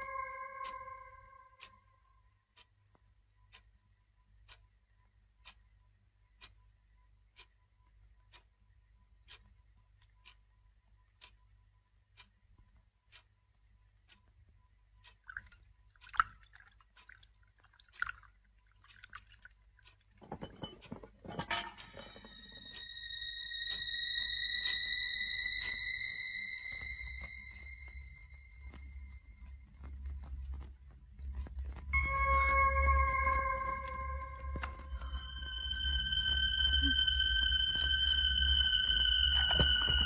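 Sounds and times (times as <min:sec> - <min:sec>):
clock ticking: 0:00.0 - 0:40.0.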